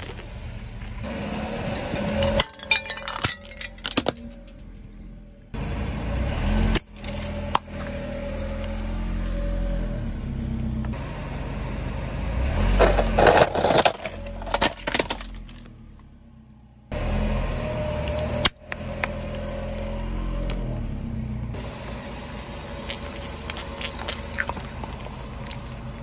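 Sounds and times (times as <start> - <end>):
car tyre rolling over asphalt: 0.0 - 26.0.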